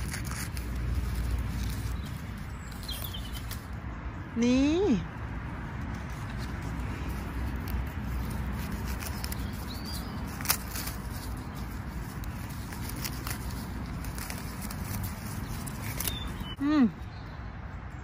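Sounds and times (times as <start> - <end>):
leaves and stems rustling: 0.0 - 16.8
low outdoor rumble: 0.0 - 18.0.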